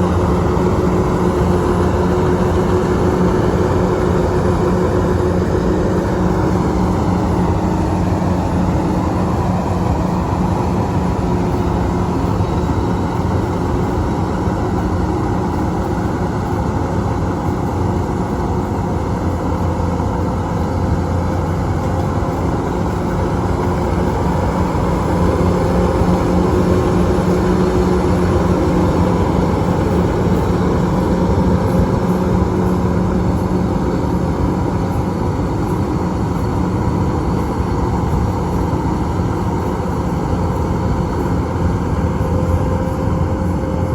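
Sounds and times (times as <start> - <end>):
harvester engine running: 0.0 - 43.9.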